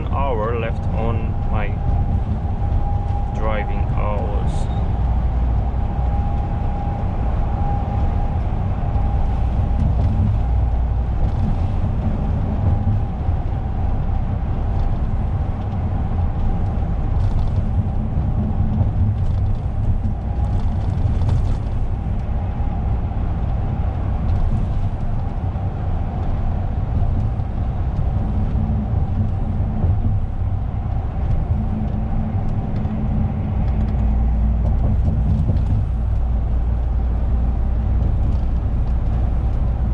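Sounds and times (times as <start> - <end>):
faint steady whine: 0.0 - 39.9
lorry engine rumble: 0.0 - 39.9.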